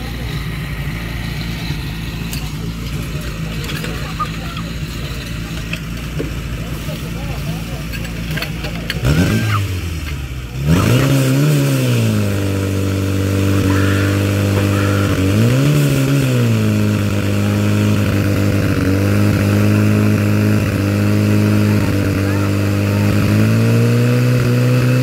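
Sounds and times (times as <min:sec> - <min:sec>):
pump engine running at high revs: 0:00.0 - 0:25.0.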